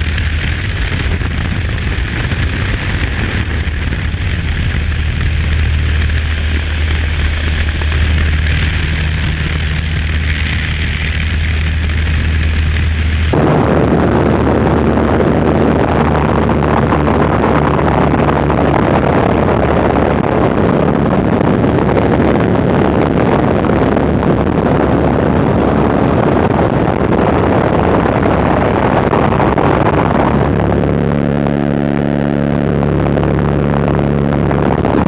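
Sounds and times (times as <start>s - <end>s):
airplane engine running: 0.0s - 35.0s
wind rushing: 0.0s - 35.0s.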